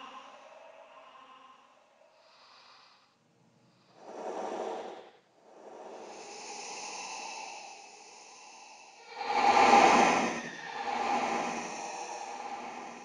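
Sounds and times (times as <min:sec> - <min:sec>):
creepy breathy vocal effect: 0:00.0 - 0:02.9, 0:03.9 - 0:13.0.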